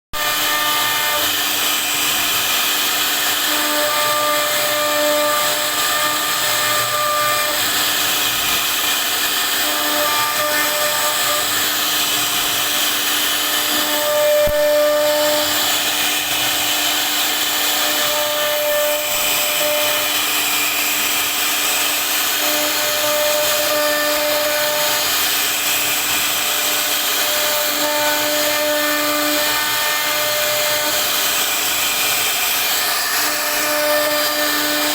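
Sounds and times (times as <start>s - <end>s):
router spindle cutting wood: 0.1s - 34.9s.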